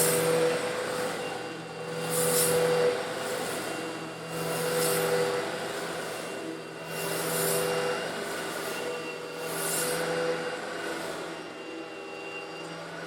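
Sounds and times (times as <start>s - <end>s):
vacuum cleaner motor humming: 0.0s - 13.0s.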